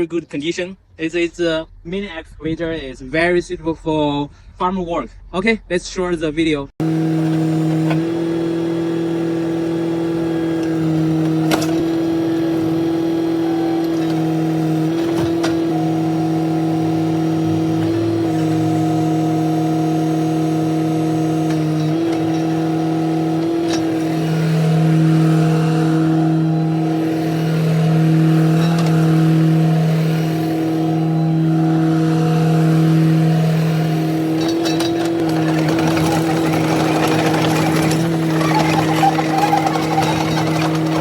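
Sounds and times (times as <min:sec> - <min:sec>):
excavator diesel engine running: 0:06.8 - 0:41.0.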